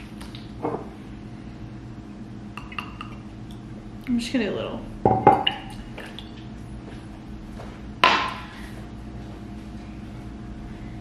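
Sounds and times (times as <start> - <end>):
faint appliance hum: 0.0 - 11.0.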